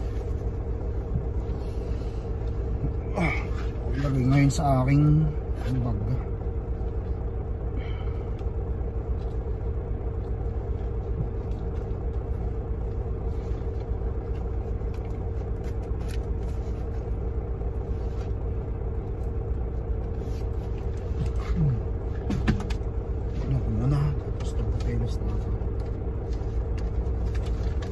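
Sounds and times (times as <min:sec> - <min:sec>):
diesel truck engine idling: 0:00.0 - 0:27.9.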